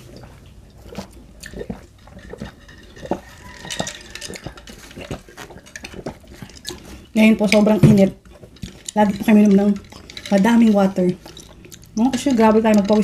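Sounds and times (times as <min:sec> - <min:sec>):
gulping water: 0:00.0 - 0:13.0.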